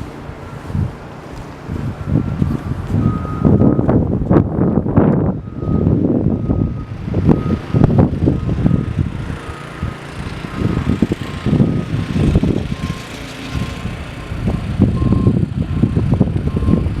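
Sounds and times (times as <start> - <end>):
heavy vehicle engines rumbling: 0.0 - 17.0
backup alarms beeping: 1.9 - 17.0.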